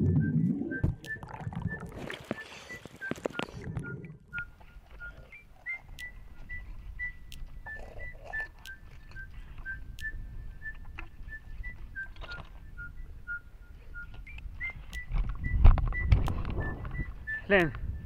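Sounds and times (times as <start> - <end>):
high whistle-like tune: 0.0 - 18.0.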